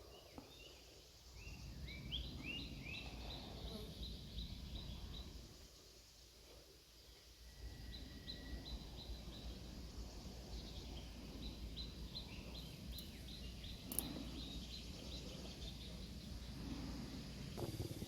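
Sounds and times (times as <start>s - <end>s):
bird chirping: 0.0s - 18.0s
low background noise: 0.0s - 18.0s.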